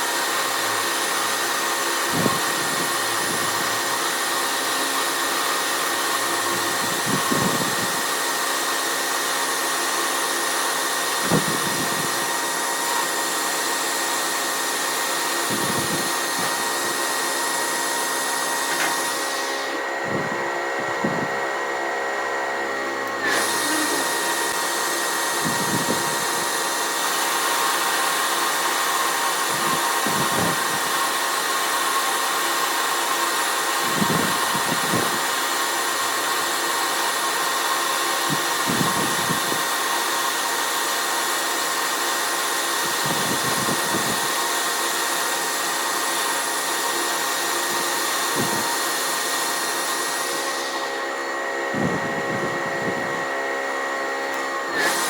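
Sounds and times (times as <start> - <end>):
power tool whirring: 0.0 - 55.0.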